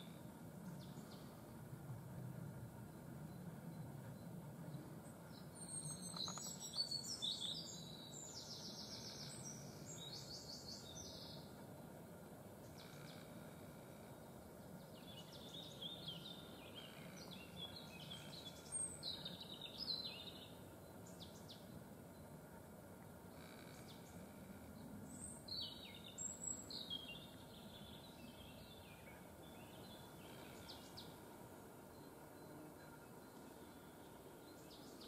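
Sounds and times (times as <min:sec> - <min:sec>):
faint steady hum: 0:00.0 - 0:35.0
songbird singing: 0:00.0 - 0:35.0.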